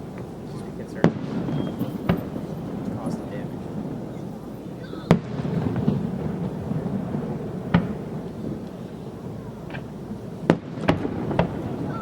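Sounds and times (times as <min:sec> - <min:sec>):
fireworks booming: 0:00.0 - 0:12.0
sharp firework report: 0:00.0 - 0:12.0.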